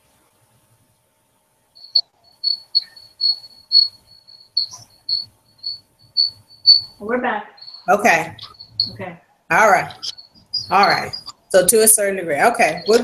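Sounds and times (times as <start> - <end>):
high chirping: 1.8 - 13.0.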